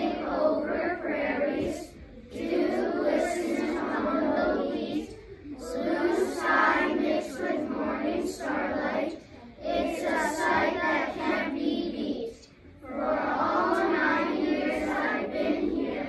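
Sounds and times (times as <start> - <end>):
children reciting in unison: 0.0 - 16.0.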